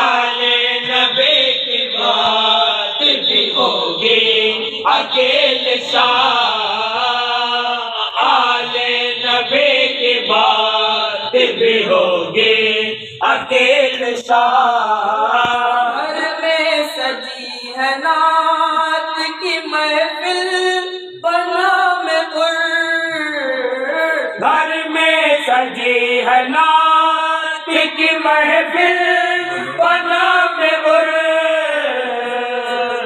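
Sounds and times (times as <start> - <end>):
men chanting devotional verse: 0.0 - 33.0.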